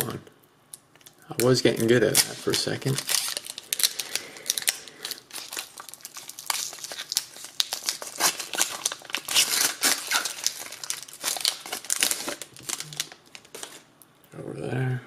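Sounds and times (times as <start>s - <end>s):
foil wrapper crinkling and tearing: 1.0s - 13.9s.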